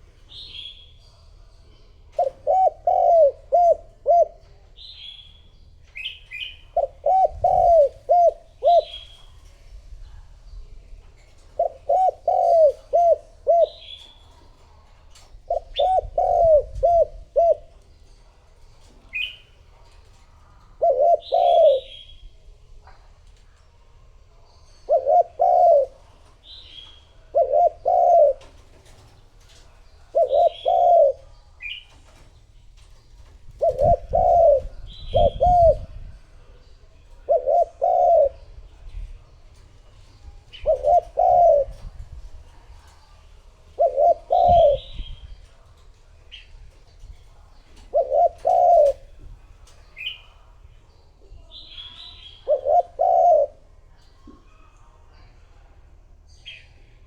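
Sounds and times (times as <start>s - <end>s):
small birds chirping: 0.0s - 3.7s, 4.4s - 55.3s
dove cooing: 2.0s - 5.0s, 5.9s - 9.6s, 11.2s - 18.0s, 18.8s - 23.4s, 24.8s - 50.6s, 51.8s - 54.8s.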